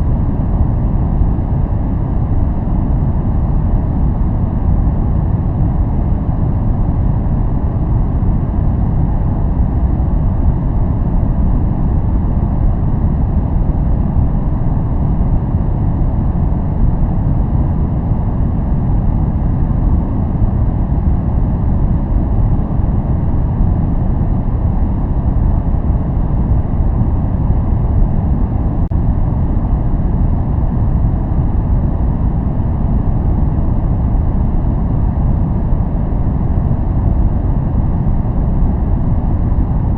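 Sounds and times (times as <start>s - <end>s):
deep muffled white noise: 0.0s - 39.9s.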